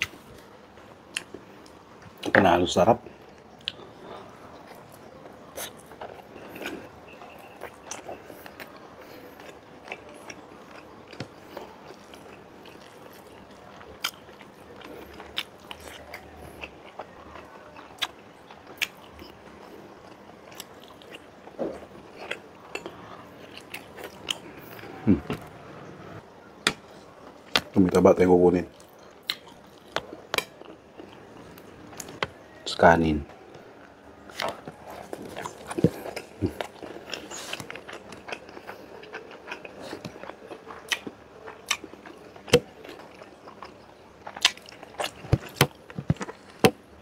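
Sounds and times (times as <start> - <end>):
close-up chewing: 3.1 - 25.6, 28.7 - 32.5, 33.5 - 47.0.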